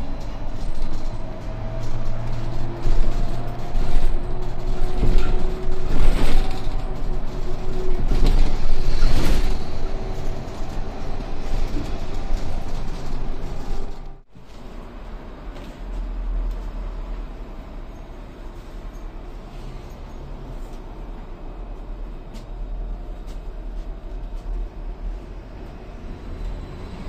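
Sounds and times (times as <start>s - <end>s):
trolleybus running noise: 0.0s - 27.0s.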